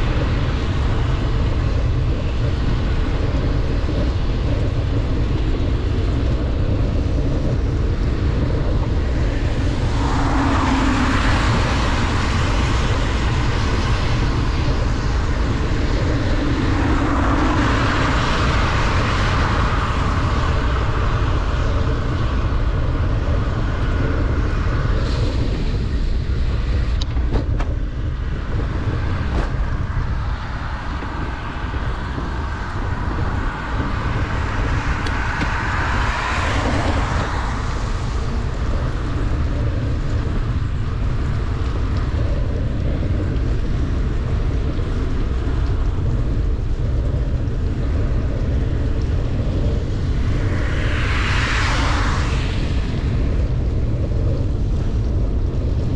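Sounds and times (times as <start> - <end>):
passing traffic: 0.0 - 55.9
tyres and rain on wet road: 0.0 - 55.9
wind rumbling on microphone: 0.0 - 55.9.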